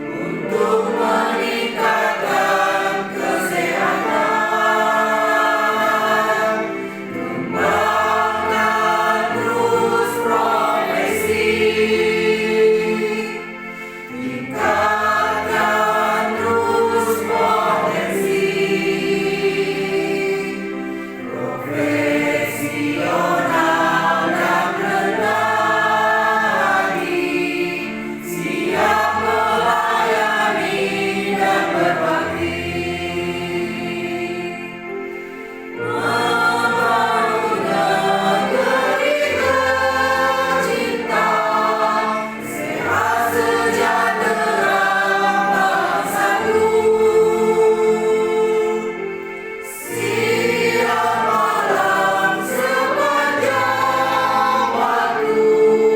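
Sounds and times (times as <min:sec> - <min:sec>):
choir singing: 0:00.0 - 0:55.9.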